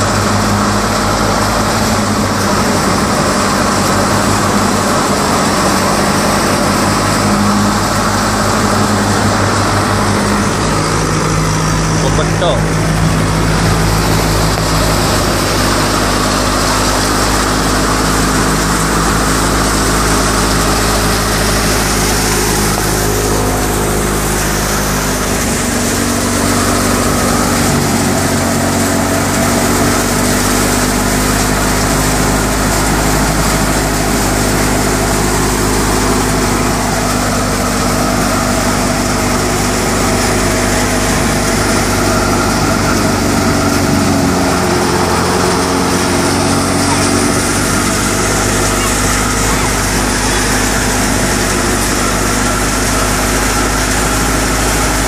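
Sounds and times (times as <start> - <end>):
diesel tractor engine running: 0.0 - 55.0
threshing machine whirring: 0.0 - 55.0.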